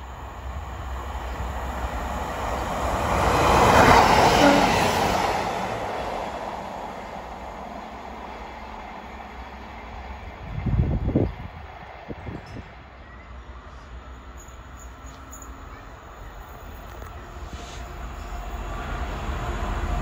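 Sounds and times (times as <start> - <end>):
train passing rumble: 0.0 - 20.0.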